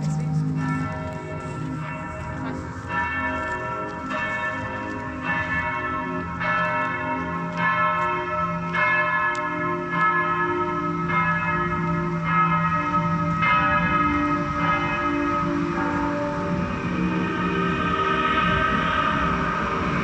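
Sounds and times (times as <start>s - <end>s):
bells struck ringing: 0.0s - 20.0s.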